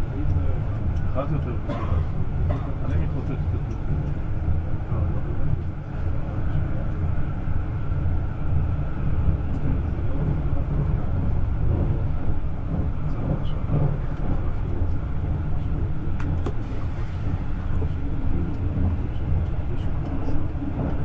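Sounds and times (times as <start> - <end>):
train rumbling inside carriage: 0.0 - 21.0.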